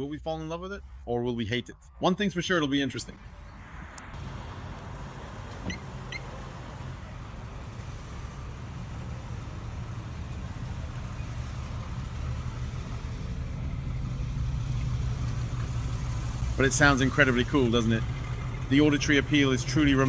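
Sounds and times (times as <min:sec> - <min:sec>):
motorcycle engine rumbling: 0:03.2 - 0:20.0.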